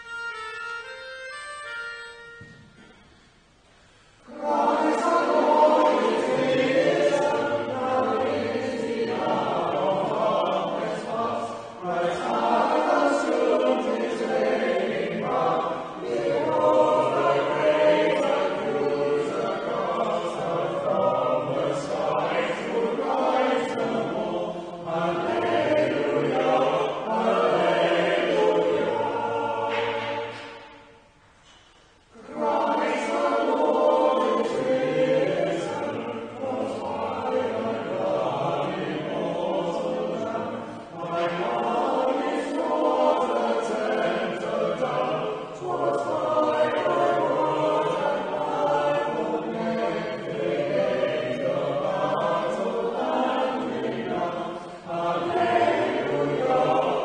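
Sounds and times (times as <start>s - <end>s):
church choir singing: 0.0s - 3.0s, 3.8s - 57.0s.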